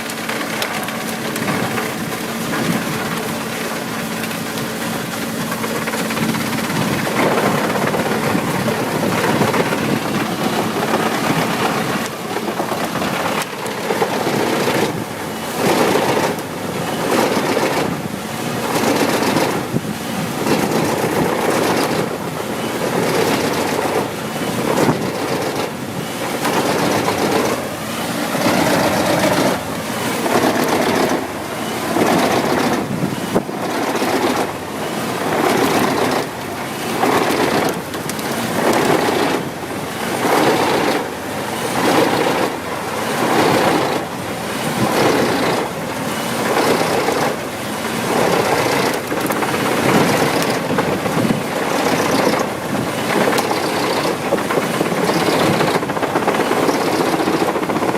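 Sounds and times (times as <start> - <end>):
wood chipper grinding: 0.0 - 57.9.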